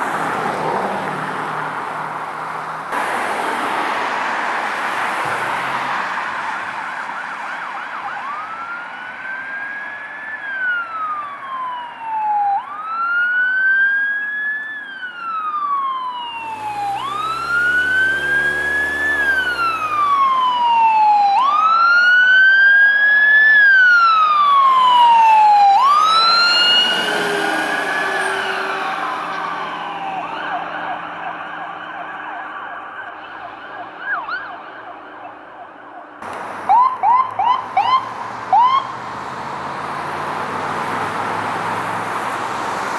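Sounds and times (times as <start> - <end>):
emergency siren wailing: 3.4 - 42.9.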